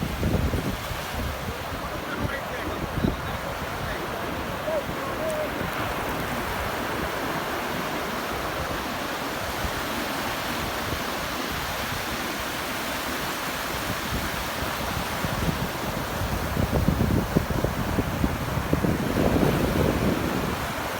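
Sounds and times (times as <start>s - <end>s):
wind buffeting microphone: 0.0s - 12.3s, 13.1s - 20.9s
waves breaking on beach: 0.0s - 20.9s.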